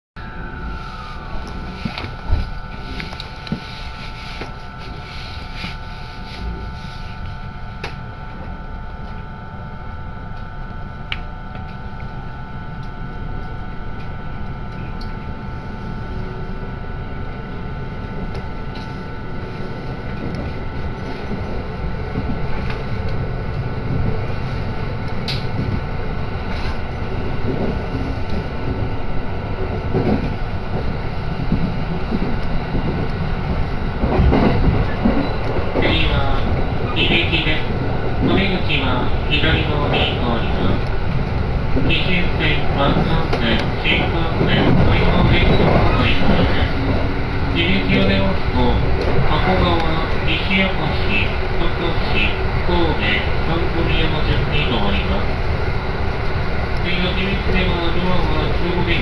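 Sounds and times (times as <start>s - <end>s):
steady train whine: 0.2s - 59.0s
train running rumble: 0.2s - 59.0s.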